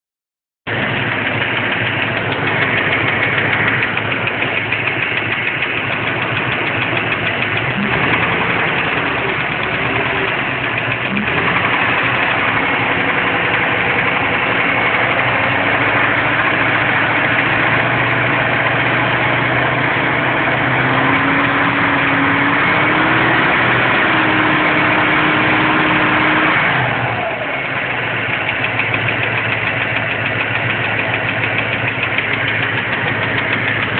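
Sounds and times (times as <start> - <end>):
engine idling: 0.7 - 33.9
engine ticking: 0.7 - 33.9.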